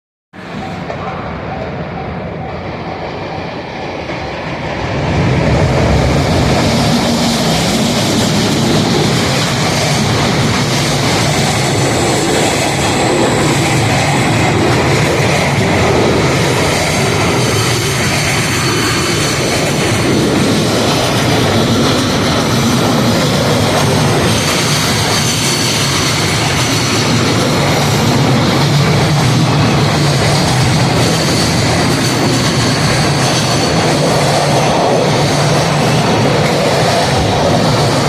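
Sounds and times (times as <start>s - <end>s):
freight train wheels rumbling: 0.4s - 38.0s.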